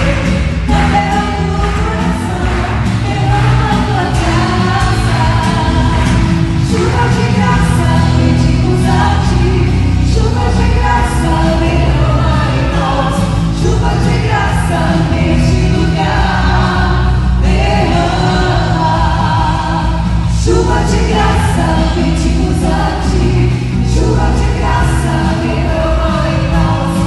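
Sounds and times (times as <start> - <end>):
congregation singing: 0.0 - 27.0
worship band accompaniment: 0.0 - 27.0.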